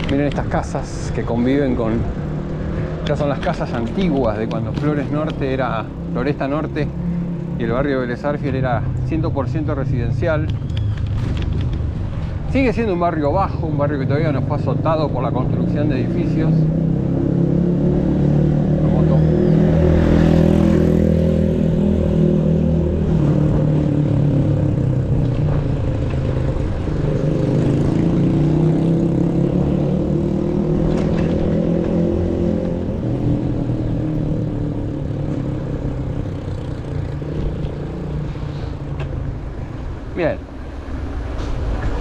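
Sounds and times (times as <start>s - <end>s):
road and wind noise: 0.0s - 42.0s.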